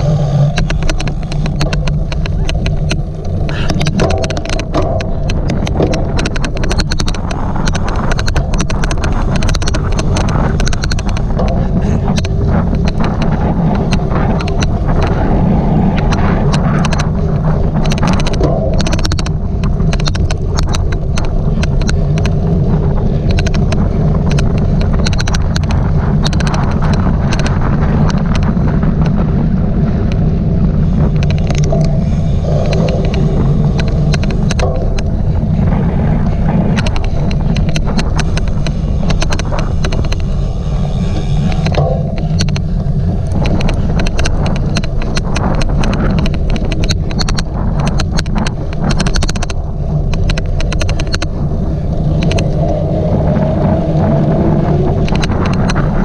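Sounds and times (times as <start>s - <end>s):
sharp clicks: 0.0s - 29.2s, 30.0s - 56.0s
wind buffeting microphone: 0.0s - 56.0s.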